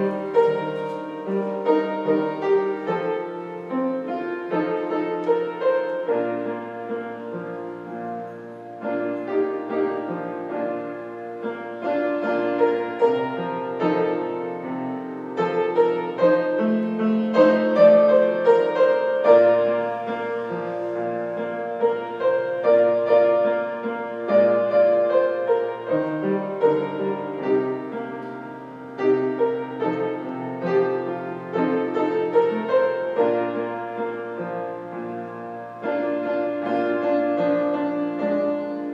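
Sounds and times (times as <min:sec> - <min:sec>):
slow piano piece: 0:00.0 - 0:38.9.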